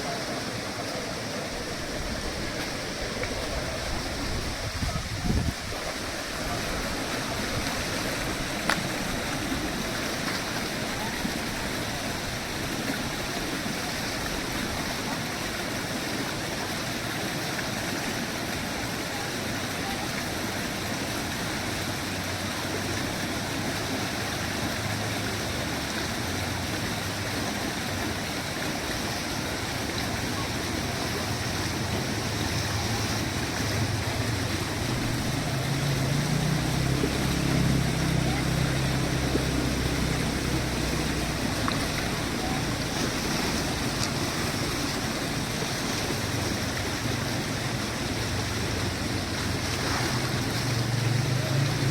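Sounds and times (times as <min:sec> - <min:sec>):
stream rushing: 0:00.0 - 0:51.9.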